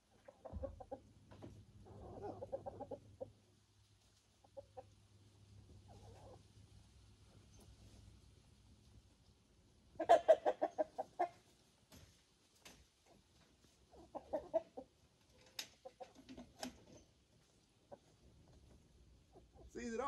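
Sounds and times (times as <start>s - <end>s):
chickens clucking: 0.0s - 19.8s.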